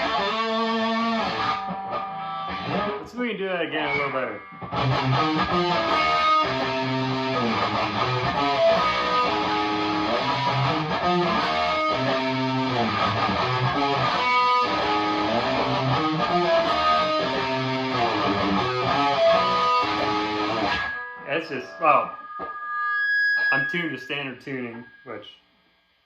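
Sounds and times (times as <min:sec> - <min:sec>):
distorted electric guitar riff: 0:00.0 - 0:25.4.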